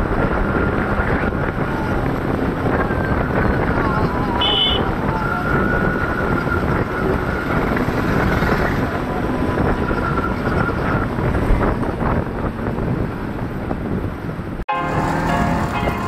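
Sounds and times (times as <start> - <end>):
wind buffeting microphone: 0.0 - 14.6
street traffic: 0.0 - 16.0.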